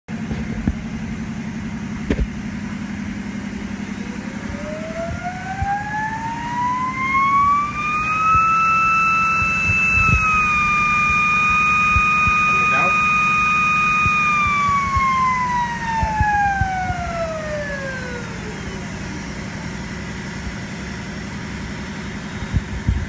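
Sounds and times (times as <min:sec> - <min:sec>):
low motor hum: 0:00.1 - 0:23.0
spindle motor whine rising: 0:00.2 - 0:23.0.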